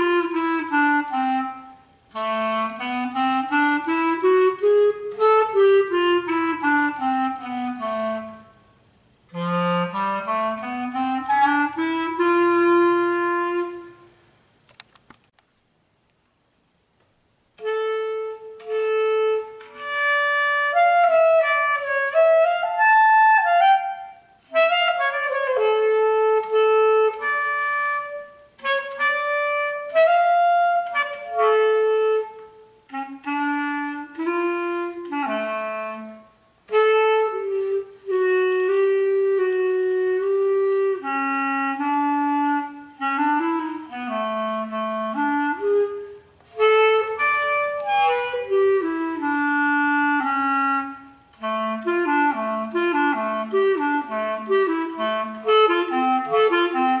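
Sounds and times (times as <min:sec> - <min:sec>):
solo clarinet: 0:00.0 - 0:14.4, 0:17.4 - 0:57.0.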